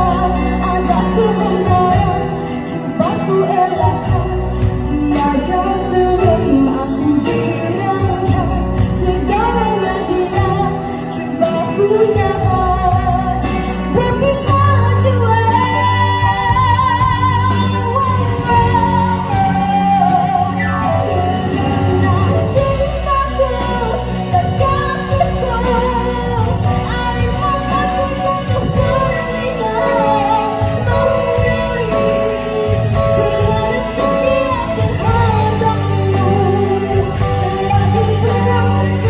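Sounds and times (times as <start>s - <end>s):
live band playing: 0.0s - 39.0s.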